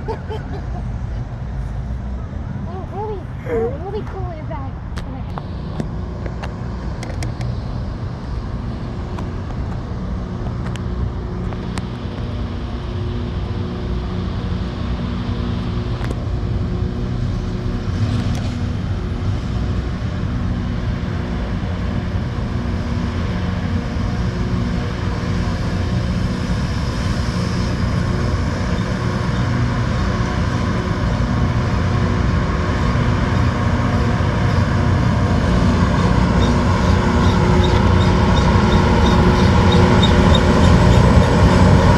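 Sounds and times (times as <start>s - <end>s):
diesel engines droning: 0.0s - 41.9s.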